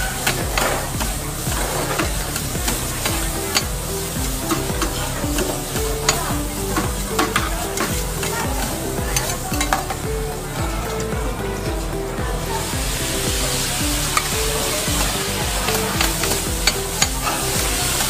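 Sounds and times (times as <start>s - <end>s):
noodles sizzling on griddle: 0.0s - 10.0s, 12.4s - 18.0s.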